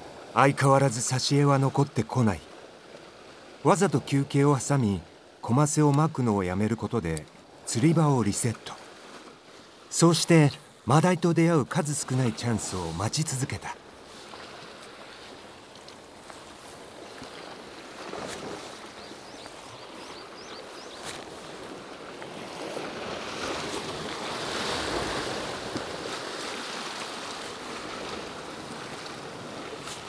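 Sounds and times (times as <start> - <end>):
sea waves breaking on rocks: 0.0 - 30.0.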